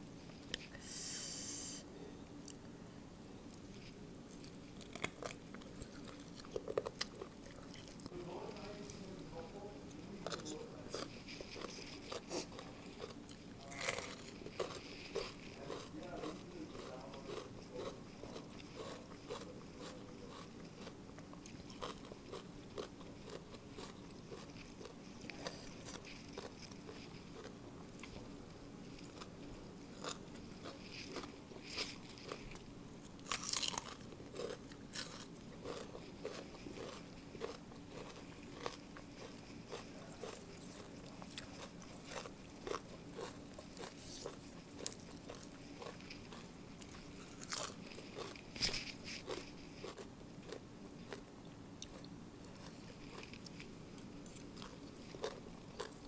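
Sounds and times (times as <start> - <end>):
person chewing crunchy food: 3.5 - 9.0, 10.2 - 56.0.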